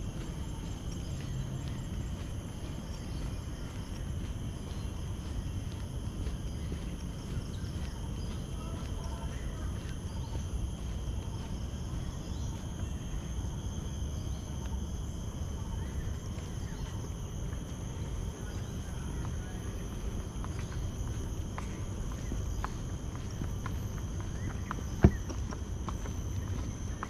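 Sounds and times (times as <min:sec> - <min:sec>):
insects singing: 0:00.0 - 0:27.0.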